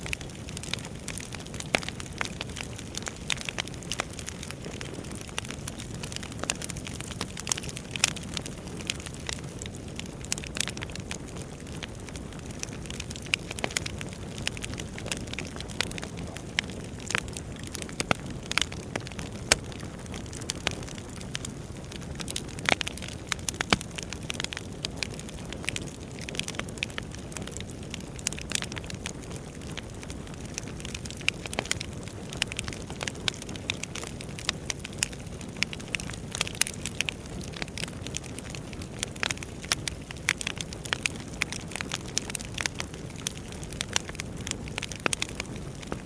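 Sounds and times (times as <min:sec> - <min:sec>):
logs crackling and popping: 0:00.0 - 0:46.0
wood fire hissing: 0:00.0 - 0:46.0.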